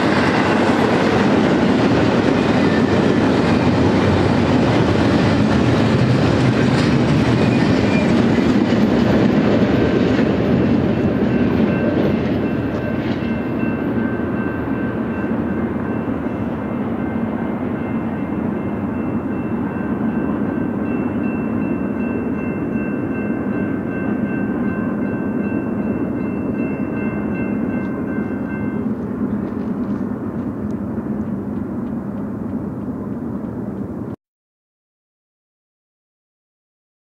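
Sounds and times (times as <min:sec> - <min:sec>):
train cars rumbling on rails: 0:00.0 - 0:34.2.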